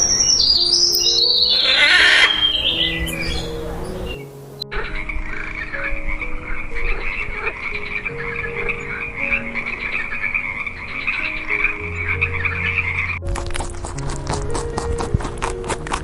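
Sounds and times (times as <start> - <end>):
frogs chorus calling: 0.0 - 13.2.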